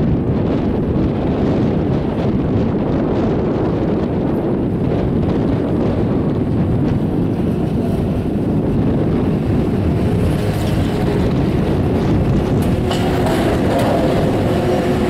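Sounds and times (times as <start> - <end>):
chairlift rumbling: 0.0 - 15.0
wind buffeting microphone: 0.0 - 15.0.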